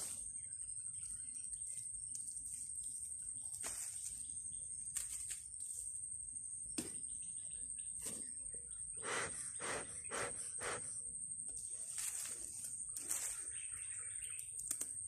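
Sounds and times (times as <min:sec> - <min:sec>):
high insect-like whine: 0:00.0 - 0:15.0.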